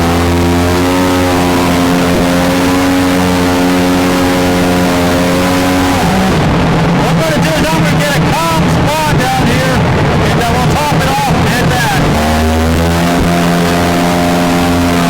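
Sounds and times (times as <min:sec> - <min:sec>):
jet boat engine running: 0:00.0 - 0:15.0
water noise: 0:00.0 - 0:15.0
wind noise: 0:00.0 - 0:15.0.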